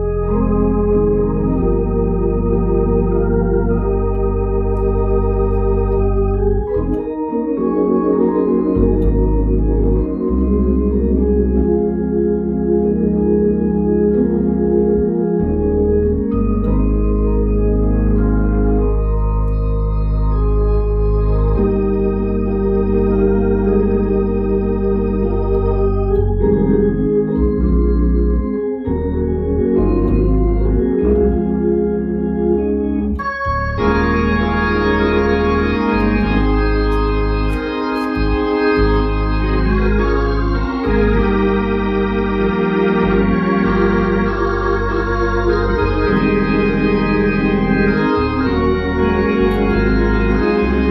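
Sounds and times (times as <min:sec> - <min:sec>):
organ playing hymn chords: 0:00.0 - 0:50.9
steady bass line: 0:00.0 - 0:50.9.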